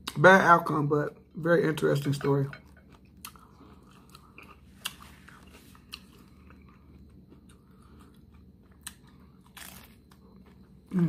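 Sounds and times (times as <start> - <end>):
chewing crunchy tacos: 0.0 - 11.0.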